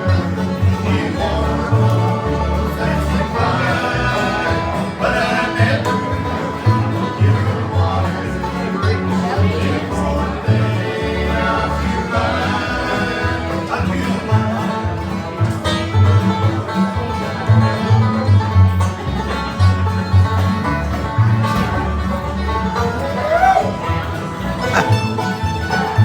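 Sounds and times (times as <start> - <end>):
banjo: 0.0 - 26.0
guitar: 0.0 - 26.0
walking bass line: 0.0 - 26.0.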